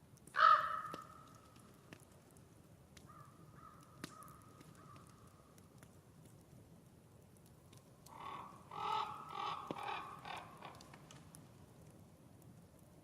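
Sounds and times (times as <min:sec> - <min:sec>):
campfire crackles: 0:00.0 - 0:13.0.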